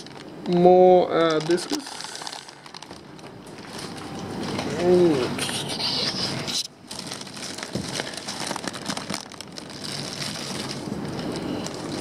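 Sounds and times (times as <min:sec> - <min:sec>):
plastic bags crinkling: 0:00.0 - 0:04.8, 0:06.8 - 0:12.0.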